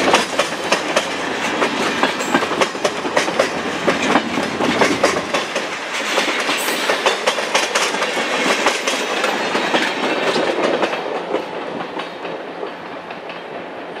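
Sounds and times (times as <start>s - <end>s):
train wheels clicking over rail joints: 0.0s - 14.0s.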